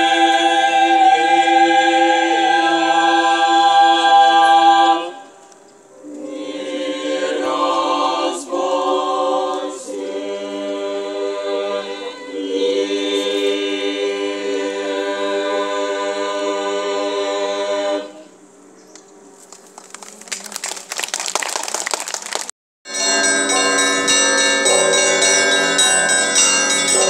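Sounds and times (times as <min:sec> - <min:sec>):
choir singing unaccompanied: 0:00.0 - 0:05.4, 0:06.0 - 0:18.4, 0:23.0 - 0:27.0.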